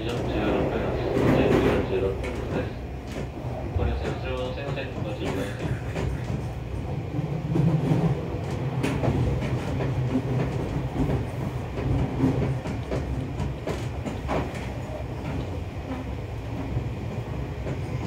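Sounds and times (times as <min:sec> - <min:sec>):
rail joint clicks: 0:00.0 - 0:18.0
train wheels rumbling on rail: 0:00.0 - 0:18.0.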